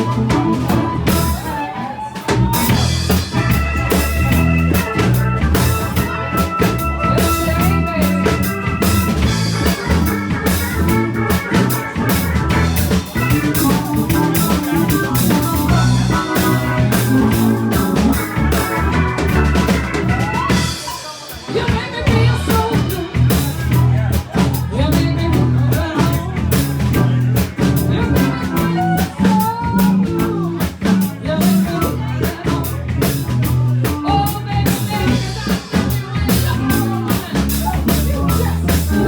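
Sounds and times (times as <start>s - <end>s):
band music with drum beat: 0.0s - 39.0s.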